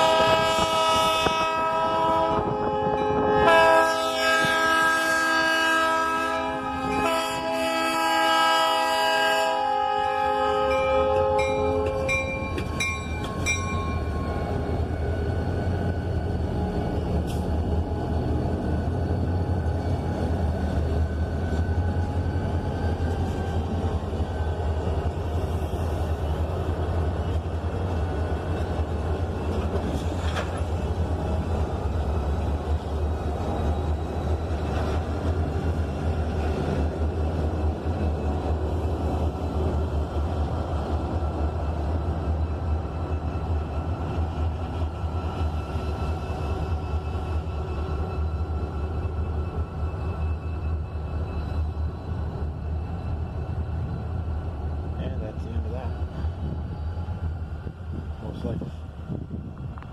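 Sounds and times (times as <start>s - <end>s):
diesel train rumbling: 0.0s - 59.9s.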